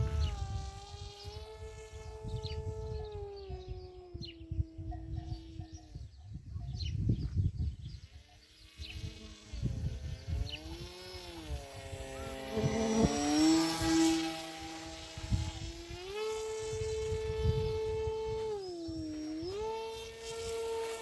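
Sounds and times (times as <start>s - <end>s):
model plane motor whining: 0.0s - 6.1s, 7.0s - 21.0s
wind rumbling on microphone: 0.0s - 21.0s.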